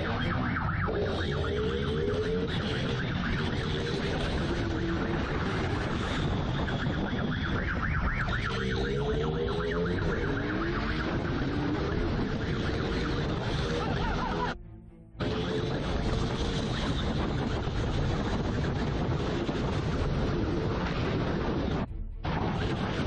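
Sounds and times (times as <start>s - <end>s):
police siren wailing: 0.0s - 14.6s, 15.2s - 23.0s
wind noise: 0.0s - 14.6s, 15.2s - 23.0s.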